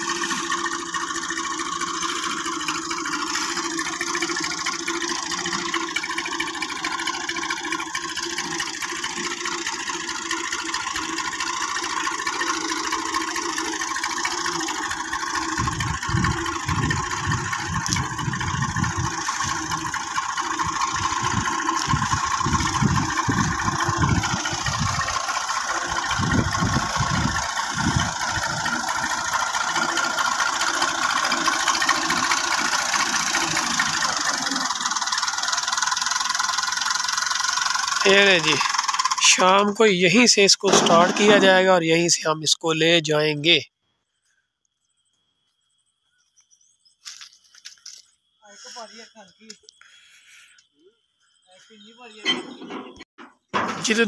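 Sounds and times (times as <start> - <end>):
tractor diesel engine running: 0.0 - 43.6, 47.0 - 50.7, 51.3 - 54.0.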